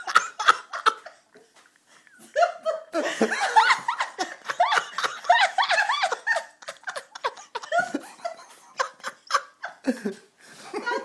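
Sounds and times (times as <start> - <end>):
people giggling and chuckling: 0.0 - 11.0.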